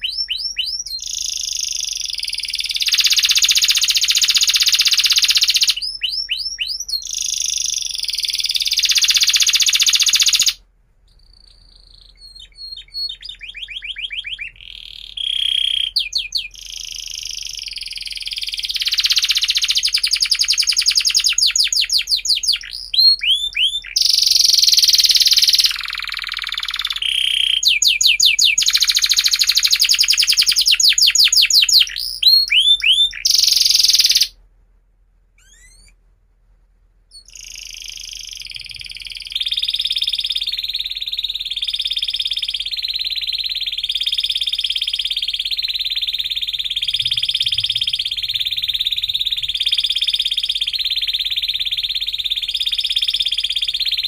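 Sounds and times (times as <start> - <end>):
canary singing trills: 0.0 - 34.4, 35.4 - 36.0, 37.1 - 54.0.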